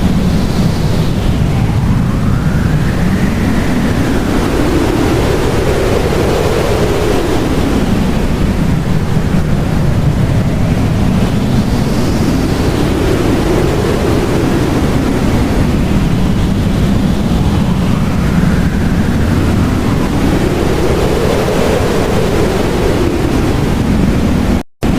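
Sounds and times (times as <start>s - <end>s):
blizzard wind blowing: 0.0s - 24.9s.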